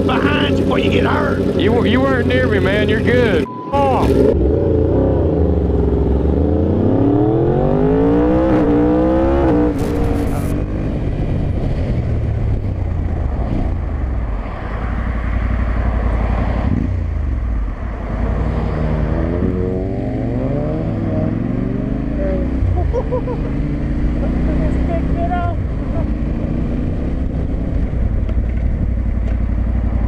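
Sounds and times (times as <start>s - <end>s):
motorcycle engine accelerating: 0.0s - 30.0s
wind and road rush: 0.0s - 30.0s.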